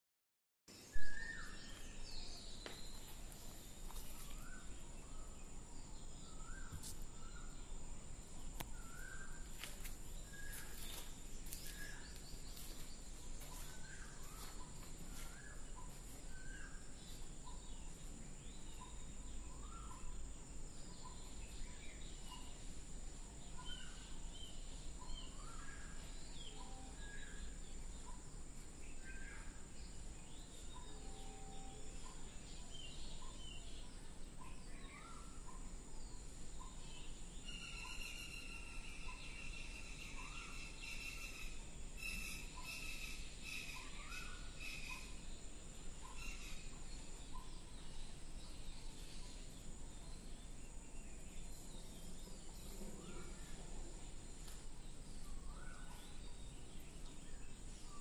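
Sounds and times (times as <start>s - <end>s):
birds chirping: 0.7s - 58.0s
steady high hiss: 0.7s - 58.0s.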